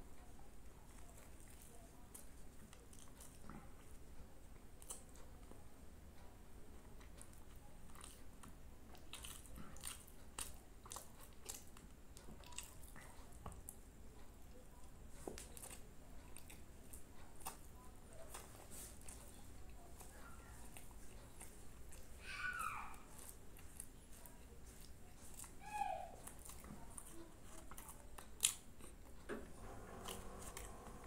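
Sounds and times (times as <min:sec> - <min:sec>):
person chewing food: 0:00.2 - 0:05.6, 0:06.2 - 0:29.3, 0:30.0 - 0:31.0.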